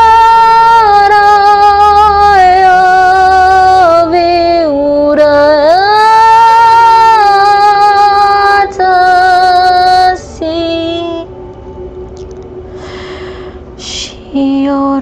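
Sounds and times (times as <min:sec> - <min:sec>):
soft steady drone: 0:00.0 - 0:15.0.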